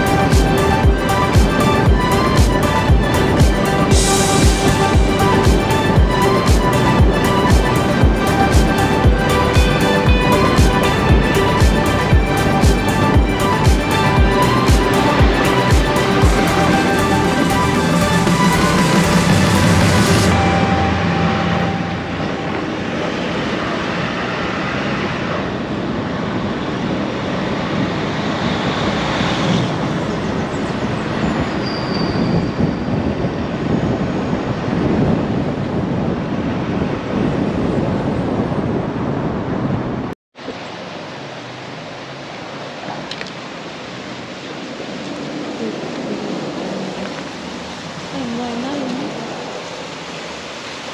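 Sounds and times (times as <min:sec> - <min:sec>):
vehicle driving on rough road: 0:00.0 - 0:50.9.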